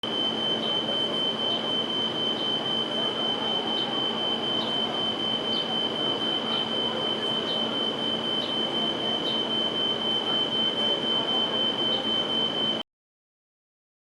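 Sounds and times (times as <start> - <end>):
smoke alarm high-pitched tone: 0.0 - 12.8.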